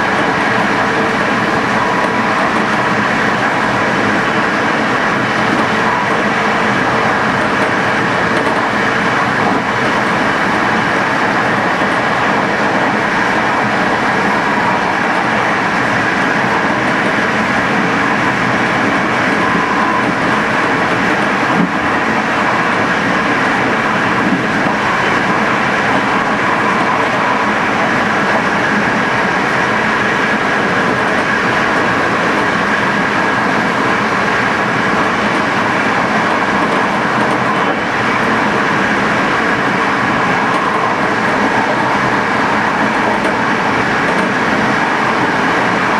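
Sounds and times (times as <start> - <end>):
train wheels on rails: 0.0 - 45.9.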